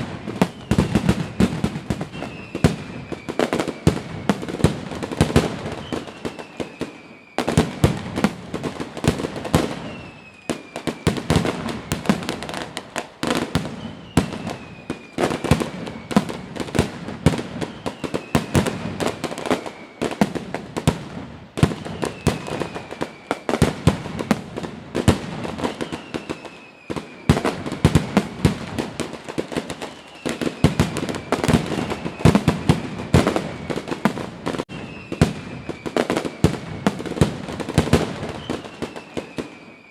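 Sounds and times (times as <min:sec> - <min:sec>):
falling firework whistle: 0:00.0 - 0:39.9
fireworks bangs and crackles: 0:00.0 - 0:39.9.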